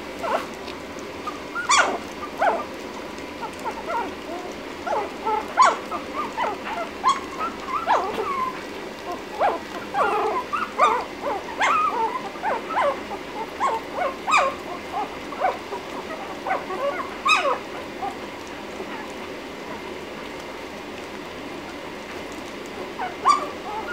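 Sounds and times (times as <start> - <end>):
puppies whimpering and squeaking: 0.2 - 0.6, 1.2 - 19.8, 22.8 - 23.9.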